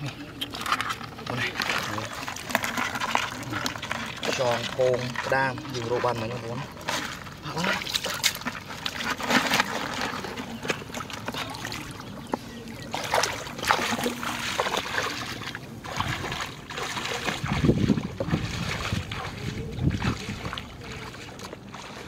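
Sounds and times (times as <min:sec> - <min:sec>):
wading through muddy water: 0:00.0 - 0:22.0
water trickling: 0:00.0 - 0:22.0.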